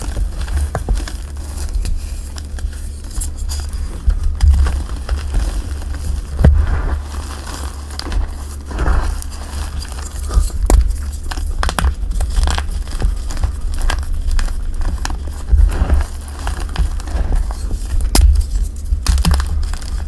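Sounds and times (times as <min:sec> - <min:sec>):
chalk crunching and crackling: 0:00.0 - 0:20.0
low handling rumble: 0:00.0 - 0:20.0.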